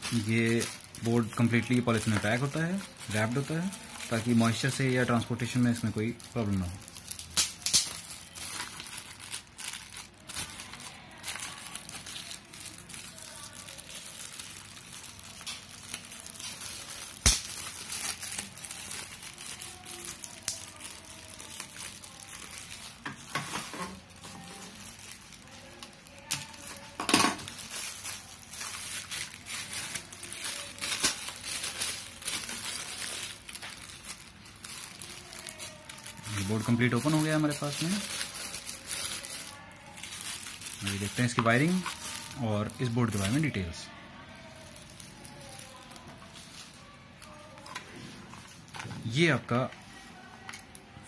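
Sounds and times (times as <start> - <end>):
plastic wrapping crinkling: 0.0 - 51.0.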